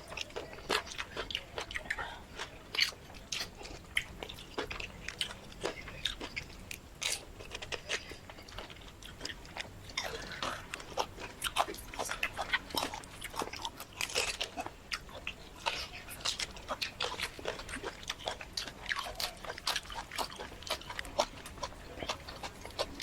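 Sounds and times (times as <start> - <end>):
person chewing food: 0.0 - 23.0
wet mouth clicks and crunches: 0.0 - 23.0.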